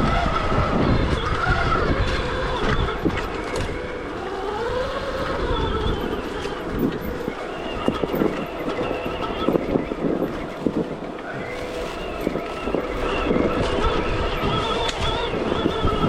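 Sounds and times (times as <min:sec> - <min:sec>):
electric dirt bike motor whining: 0:00.0 - 0:16.0.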